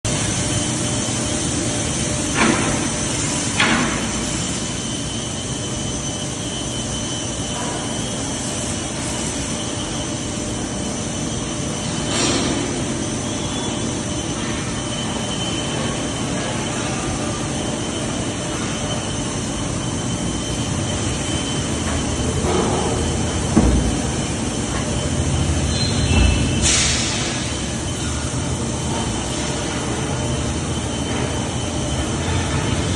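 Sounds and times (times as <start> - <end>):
plate rolling machine running: 0.1 - 32.9.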